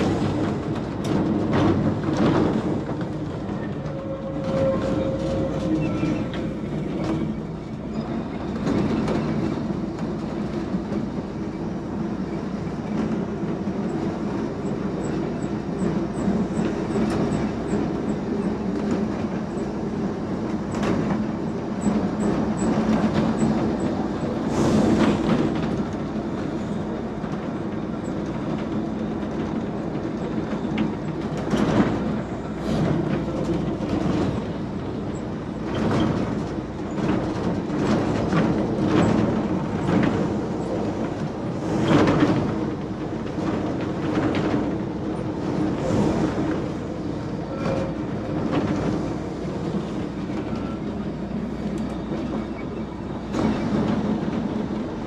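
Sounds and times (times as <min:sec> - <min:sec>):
electric tram running: 0:00.0 - 0:55.0.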